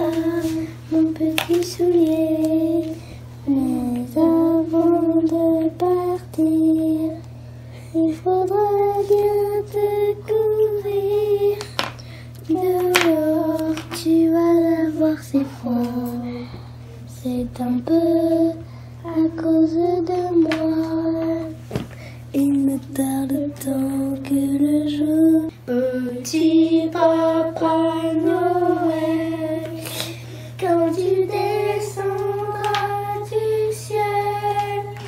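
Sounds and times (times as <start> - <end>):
child singing: 0.0 - 7.2, 8.0 - 11.7, 12.4 - 16.3, 17.1 - 21.6, 22.4 - 29.9, 30.6 - 35.0.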